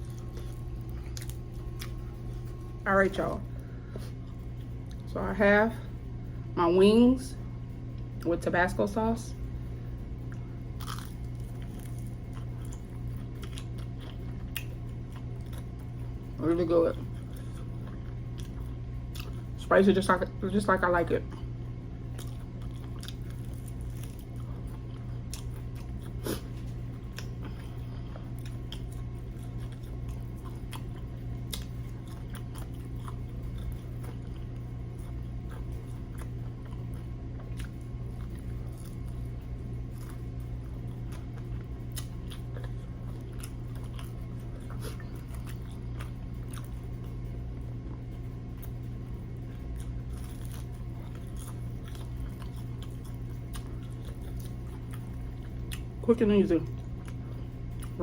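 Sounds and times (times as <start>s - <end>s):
person chewing crispy food: 0.0s - 2.7s, 9.9s - 19.6s, 21.2s - 56.0s, 56.6s - 58.0s
low hum: 0.0s - 58.0s.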